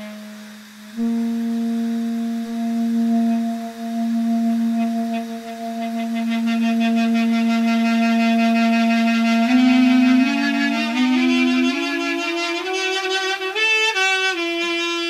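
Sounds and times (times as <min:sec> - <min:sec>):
duduk long low note: 0:00.0 - 0:15.0.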